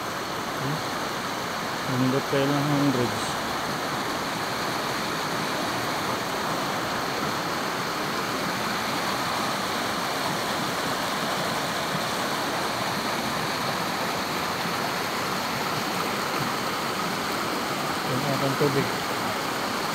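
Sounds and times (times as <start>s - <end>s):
creek rushing over rocks: 0.0s - 19.9s.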